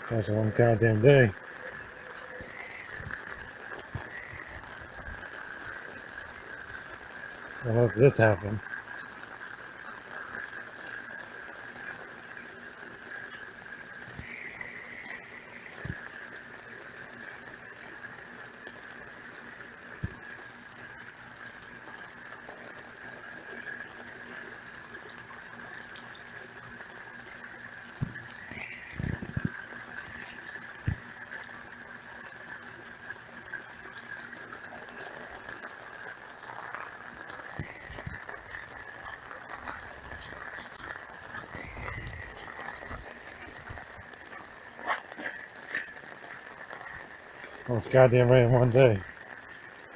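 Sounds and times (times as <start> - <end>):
constant high-pitched tone: 0.0 - 49.9
heavy rain and gushing water: 0.0 - 49.9.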